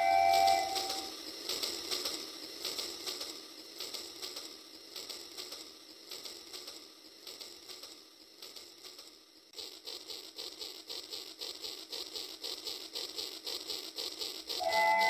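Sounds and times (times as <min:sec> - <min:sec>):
toy train clicking on track: 0:00.0 - 0:15.0.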